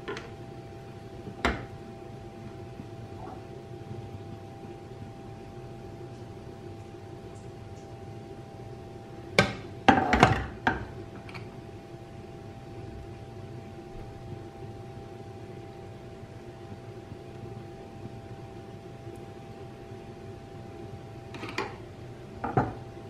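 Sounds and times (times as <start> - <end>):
steady hum with faint whine: 0.0 - 23.0.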